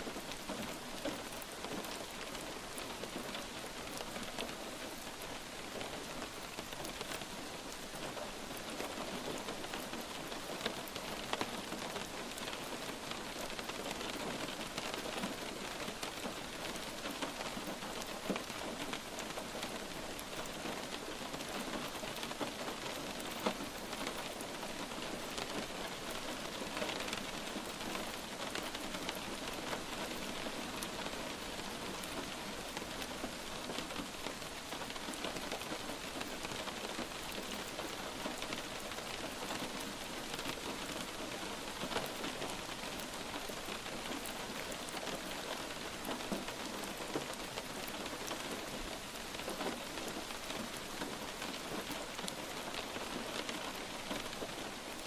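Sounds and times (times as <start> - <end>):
light rain falling: 0.0 - 55.0
raindrops ticking close by: 0.0 - 55.0.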